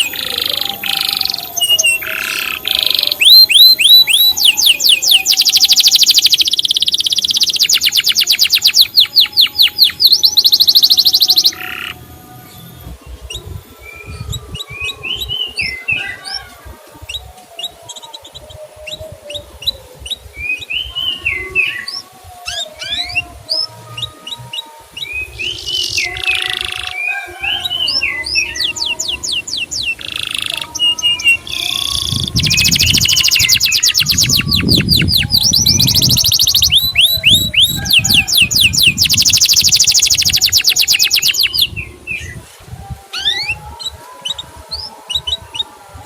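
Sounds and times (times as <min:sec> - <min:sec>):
canary singing: 0:00.0 - 0:46.0.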